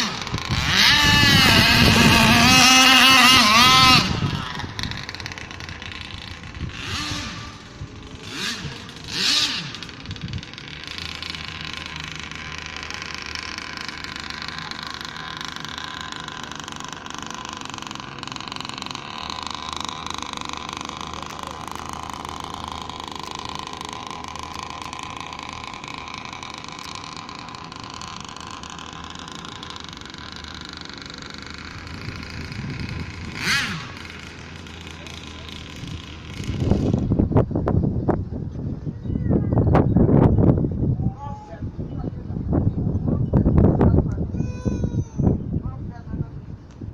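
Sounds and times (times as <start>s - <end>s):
speedboat engine running: 0.0s - 38.9s.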